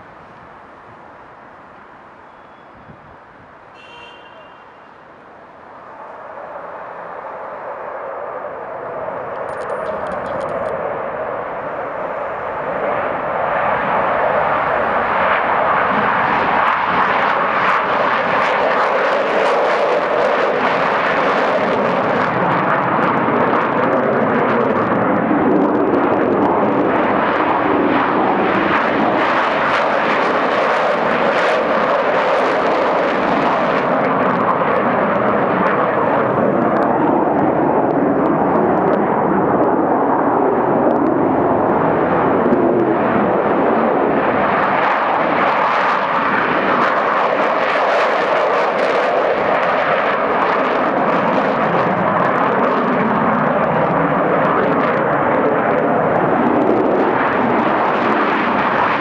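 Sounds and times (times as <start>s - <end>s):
fighter jet engines roaring: 0.0s - 59.0s.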